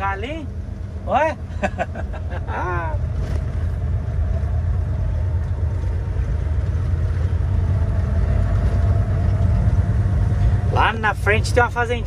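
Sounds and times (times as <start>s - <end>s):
road noise on dirt road: 0.0s - 12.0s
truck engine running: 0.0s - 12.0s.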